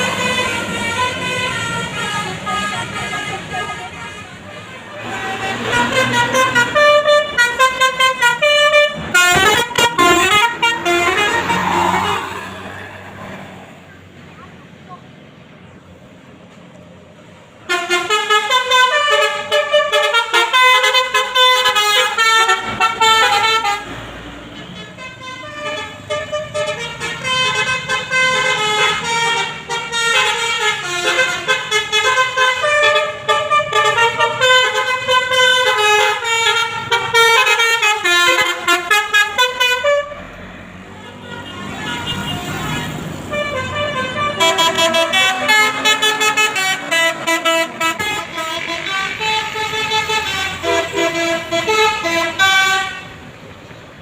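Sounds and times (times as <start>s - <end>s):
musical bus air horn: 0.0s - 12.6s, 17.6s - 40.3s, 40.9s - 53.3s.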